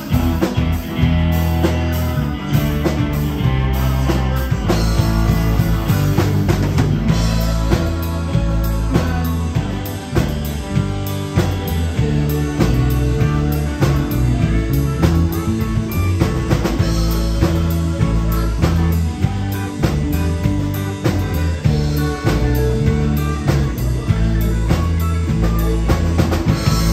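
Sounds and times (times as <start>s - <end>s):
bass line: 0.0s - 26.9s
drum kit with cymbals: 0.0s - 26.9s
electric guitar: 0.0s - 26.9s.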